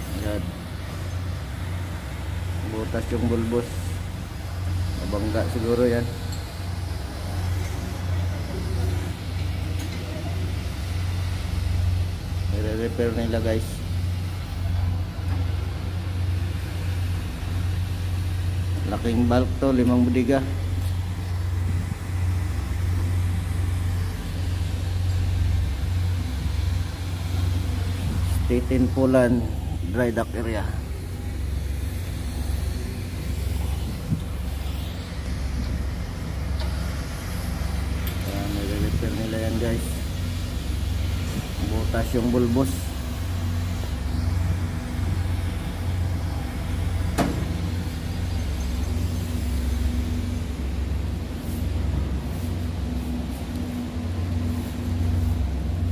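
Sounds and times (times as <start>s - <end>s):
engine droning: 0.0s - 55.9s.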